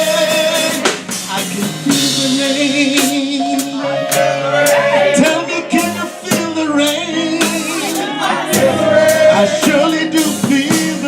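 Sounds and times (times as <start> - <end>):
drum kit and cymbal hits: 0.0 - 11.0
men's choir singing: 0.0 - 11.0.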